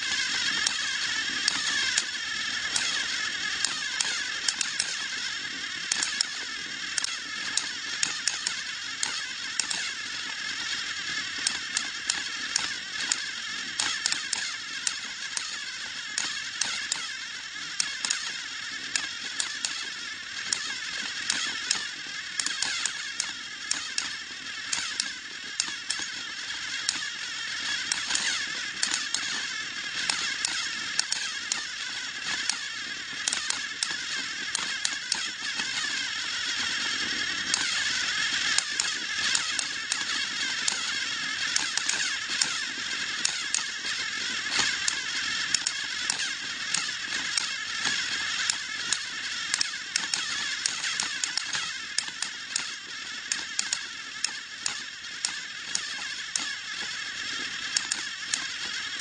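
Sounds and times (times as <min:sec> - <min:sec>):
small clicks: 0:00.0 - 0:59.0
toy train motor whirring: 0:00.0 - 0:59.0.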